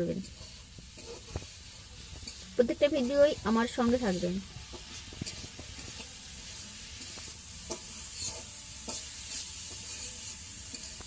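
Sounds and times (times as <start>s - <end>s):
curry sizzling in a pot: 0.0s - 11.0s.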